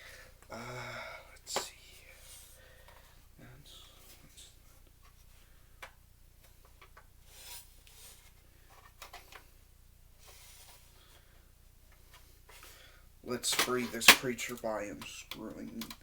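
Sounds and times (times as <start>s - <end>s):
hands rubbing plastic parts: 1.4s - 9.6s, 10.2s - 11.3s, 11.9s - 16.0s.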